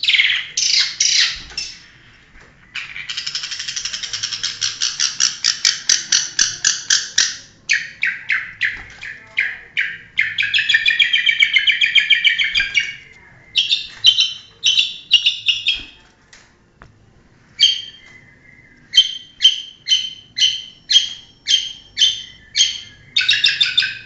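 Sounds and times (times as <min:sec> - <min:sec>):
bird singing trills: 0:00.0 - 0:02.0, 0:02.7 - 0:16.0, 0:17.6 - 0:24.0.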